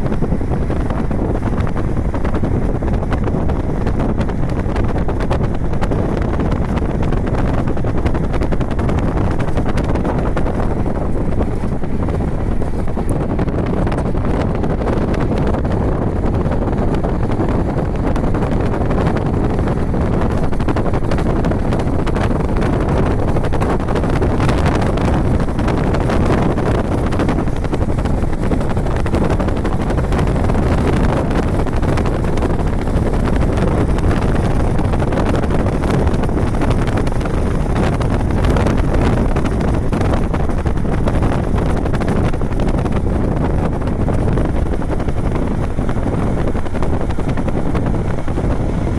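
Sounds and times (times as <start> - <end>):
loud low rumbling noise: 0.0 - 48.9.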